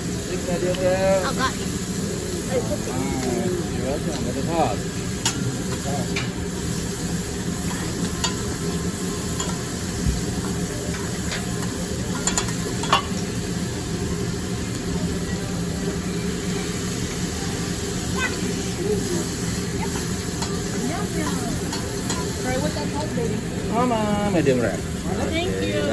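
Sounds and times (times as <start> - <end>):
food sizzling on a griddle: 0.0 - 25.9.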